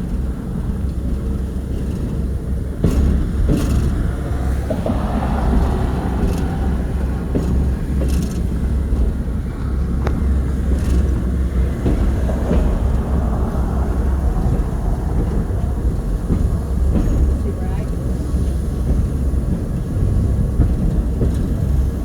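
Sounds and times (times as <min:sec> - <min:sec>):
train rumbling and rattling on track: 0:00.0 - 0:22.0.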